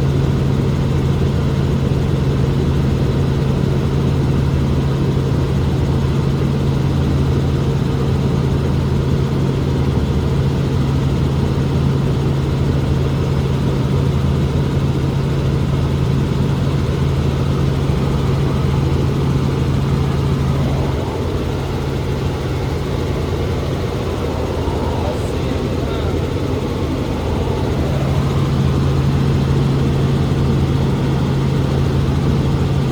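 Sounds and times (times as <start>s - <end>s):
helicopter engine and rotor drone: 0.0s - 32.9s.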